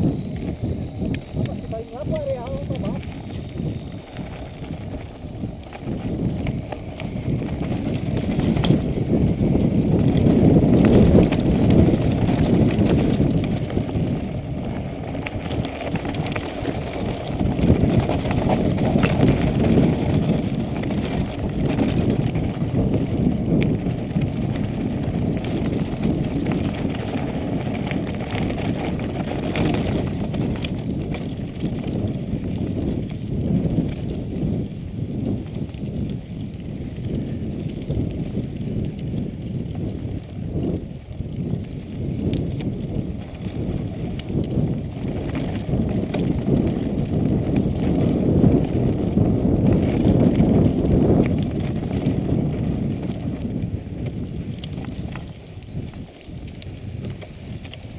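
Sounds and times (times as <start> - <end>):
bike rattling over bumps: 0.0 - 57.9
bike tyres rumbling on dirt: 0.0 - 57.9.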